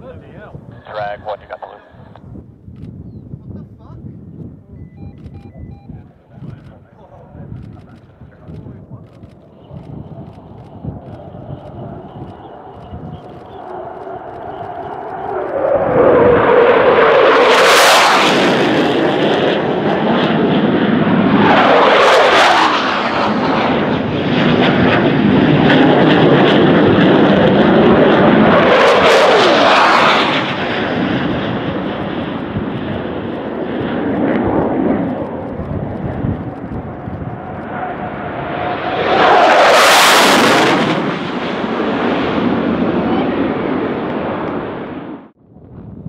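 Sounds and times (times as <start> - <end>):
fighter jets passing low: 0.0 - 46.0.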